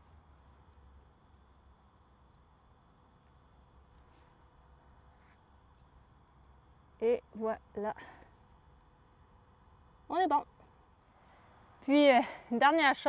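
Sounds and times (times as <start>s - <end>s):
cricket chirping: 0.0s - 11.9s.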